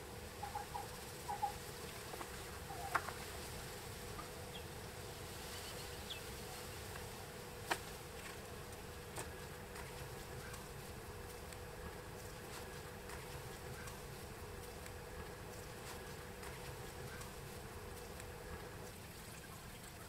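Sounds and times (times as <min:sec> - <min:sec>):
low steady buzzing hum: 0:00.0 - 0:20.0.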